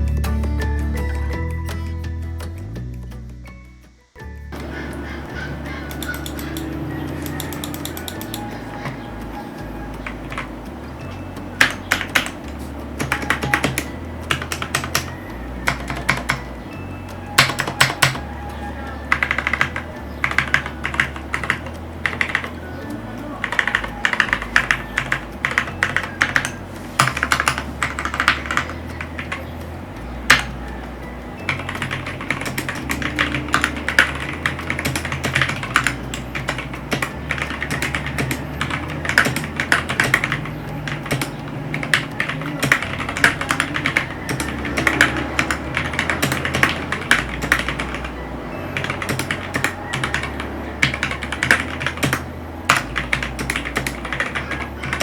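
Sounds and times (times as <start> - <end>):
background music with bass: 0.0 - 55.0
mechanical keyboard clacks: 5.6 - 10.7, 11.5 - 16.5, 17.2 - 29.5, 30.3 - 30.8, 31.5 - 48.2, 48.8 - 55.0.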